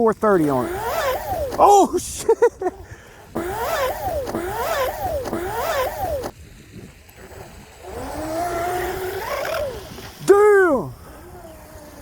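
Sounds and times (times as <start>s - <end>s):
electric boat motor whining: 0.0s - 12.0s.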